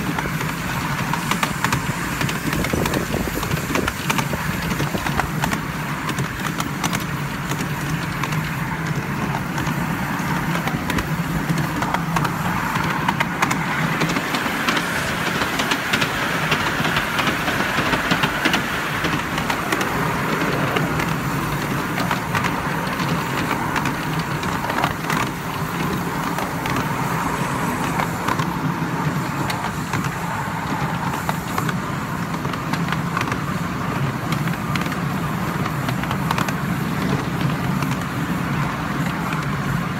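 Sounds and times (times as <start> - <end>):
miniature train running on track: 0.0 - 39.9
wheels clacking on rails: 0.0 - 39.9.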